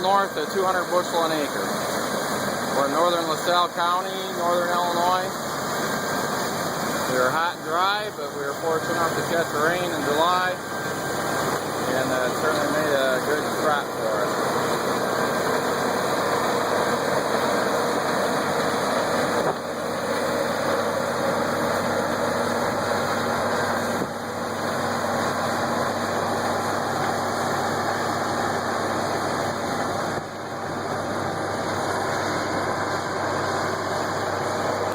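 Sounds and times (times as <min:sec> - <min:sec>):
combine harvester drone: 0:00.0 - 0:34.9.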